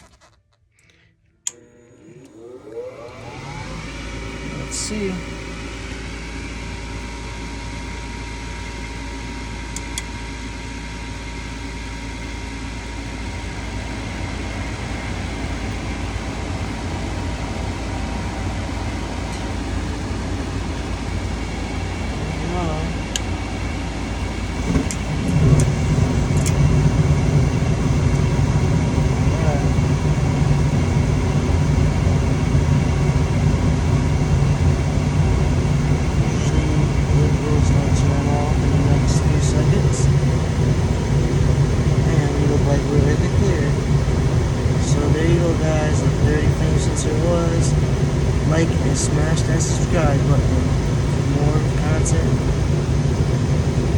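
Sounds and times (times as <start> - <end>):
furnace fan hum: 0.0 - 53.9.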